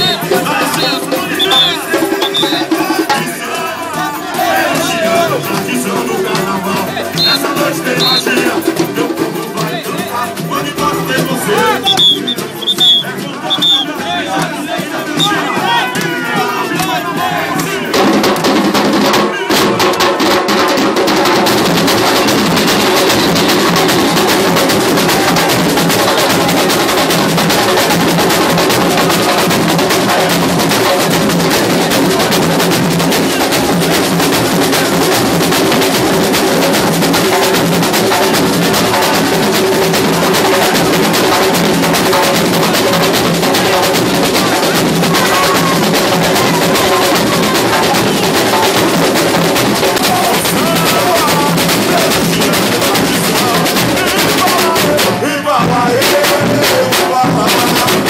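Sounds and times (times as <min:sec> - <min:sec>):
samba drum ensemble playing: 0:00.0 - 0:58.0.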